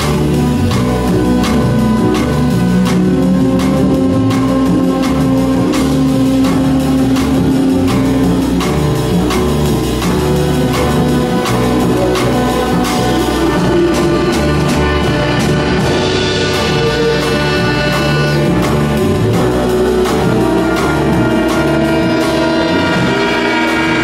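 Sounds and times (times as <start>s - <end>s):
drum and cymbal strikes: 0.0s - 24.0s
high held tones: 0.0s - 24.0s
jazz ensemble playing: 0.0s - 24.0s.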